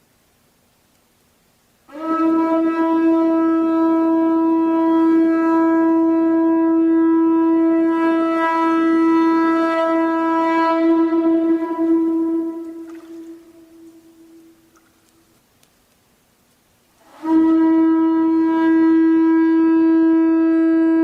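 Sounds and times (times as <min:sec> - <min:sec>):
conch shell trumpet blown: 0:01.9 - 0:14.8, 0:17.0 - 0:21.0.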